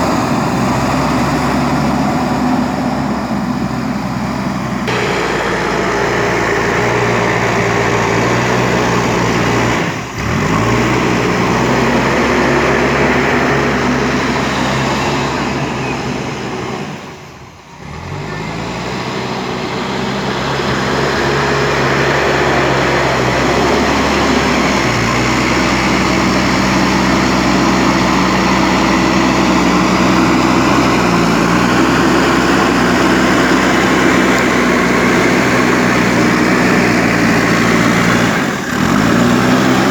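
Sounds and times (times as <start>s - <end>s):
backhoe loader diesel engine: 0.0s - 39.9s.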